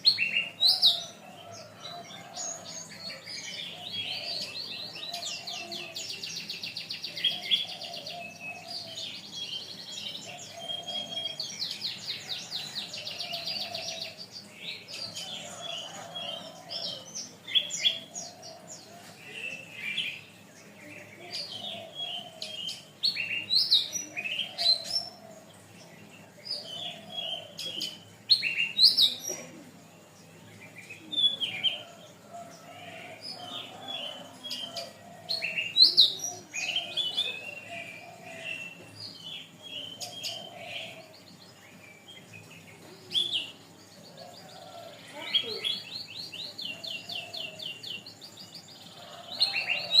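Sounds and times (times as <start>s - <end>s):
canary singing: 0.0s - 29.3s, 30.0s - 50.0s.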